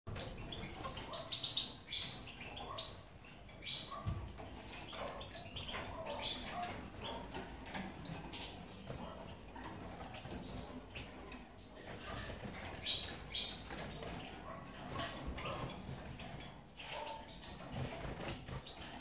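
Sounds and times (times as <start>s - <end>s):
finches chirping and twittering: 0.1s - 19.0s
loud bird calls: 0.1s - 19.0s.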